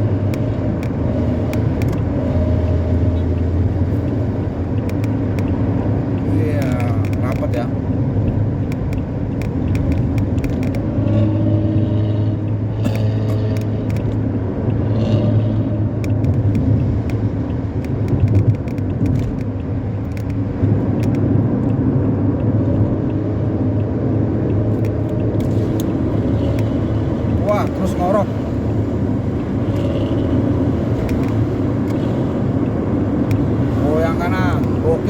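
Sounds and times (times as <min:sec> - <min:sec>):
bus exhaust rumbling: 0:00.0 - 0:35.0.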